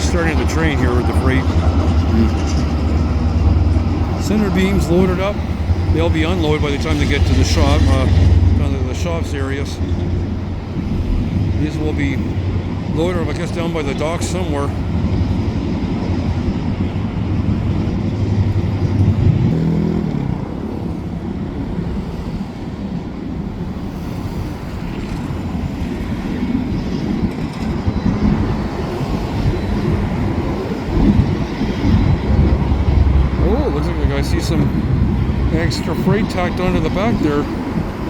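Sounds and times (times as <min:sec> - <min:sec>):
diesel engine hum: 0:00.0 - 0:24.3, 0:29.4 - 0:38.0
freight train rumbling: 0:00.0 - 0:38.0.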